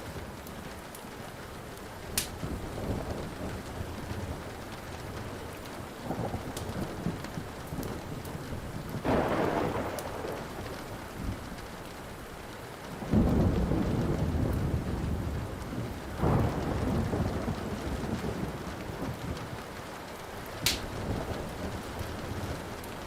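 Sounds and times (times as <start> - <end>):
steady rain: 0.0 - 23.0
wood fire crackling: 0.0 - 23.0
thunder rumbling: 2.4 - 11.8, 13.0 - 19.8, 20.6 - 23.0.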